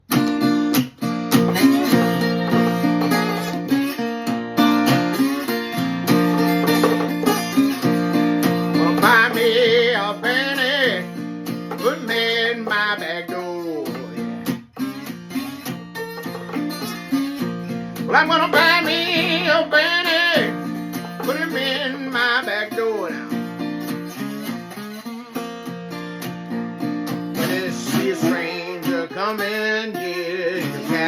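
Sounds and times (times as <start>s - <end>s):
acoustic slide guitar blues: 0.0s - 31.0s.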